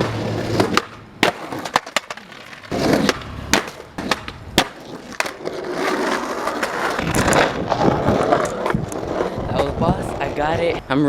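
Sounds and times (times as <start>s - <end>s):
skateboard clacks and impacts: 0.0s - 10.2s
skateboard wheels rolling: 0.0s - 11.0s.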